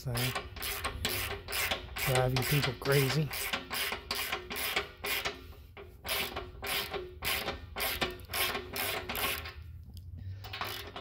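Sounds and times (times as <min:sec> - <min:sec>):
wrench ratcheting: 0:00.0 - 0:11.0.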